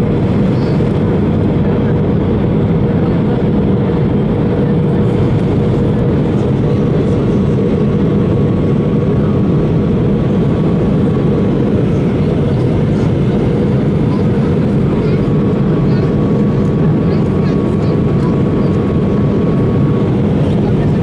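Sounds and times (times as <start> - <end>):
constant hum: 0.0 - 21.0
engines and airflow roaring: 0.0 - 21.0.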